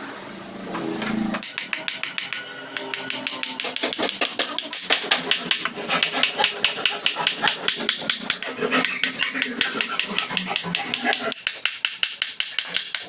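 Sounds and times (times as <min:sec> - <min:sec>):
hammer tapping chisel handle: 0:01.4 - 0:13.0.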